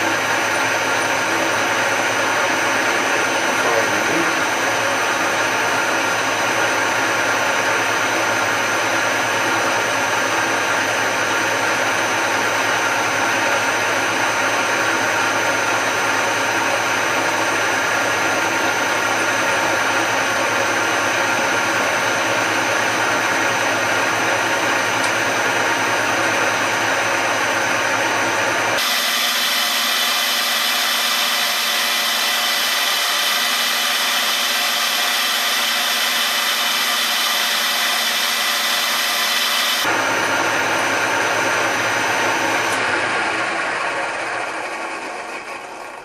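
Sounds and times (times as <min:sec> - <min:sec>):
metal-cutting machine running: 0:00.0 - 0:46.0.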